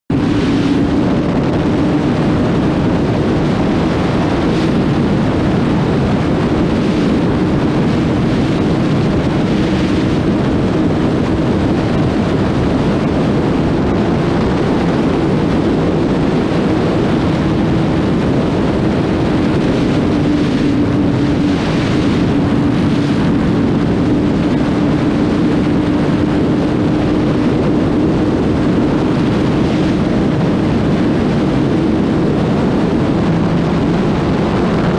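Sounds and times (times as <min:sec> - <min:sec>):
wind and road noise: 0:00.0 - 0:34.9
motorcycle engine running: 0:00.1 - 0:34.9.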